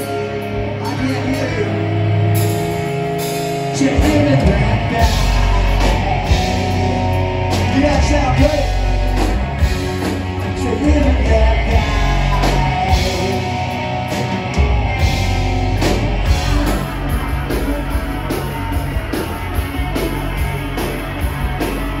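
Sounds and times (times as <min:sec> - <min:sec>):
drums keeping steady beat: 0:00.0 - 0:22.0
rock band playing live: 0:00.0 - 0:22.0.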